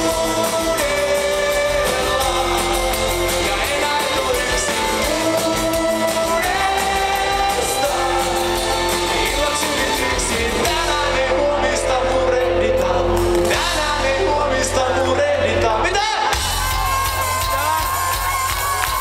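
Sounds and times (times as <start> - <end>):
person singing: 0.0 - 17.8
live pop-rock band: 0.0 - 19.0.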